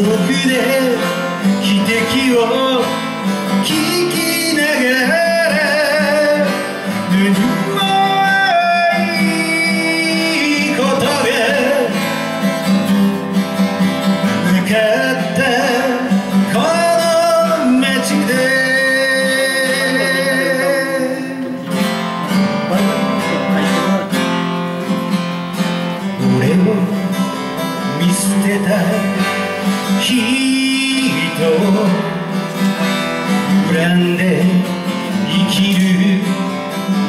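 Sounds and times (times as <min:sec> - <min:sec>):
acoustic guitar strumming: 0:00.0 - 0:37.0
person singing folk song: 0:00.0 - 0:37.0.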